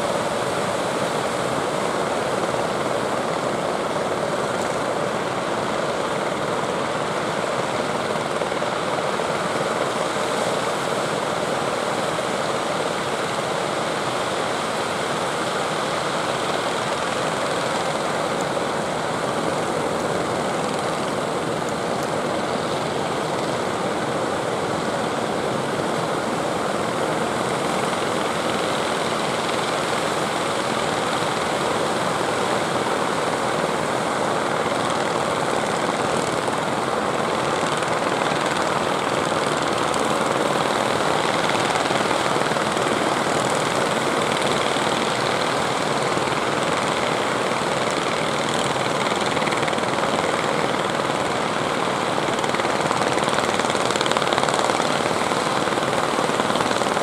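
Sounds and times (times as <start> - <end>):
boat engines running: 0.0 - 57.0.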